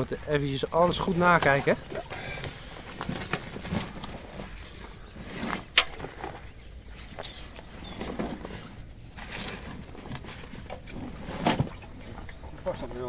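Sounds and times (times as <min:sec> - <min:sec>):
fabric rustling: 0:01.1 - 0:12.5.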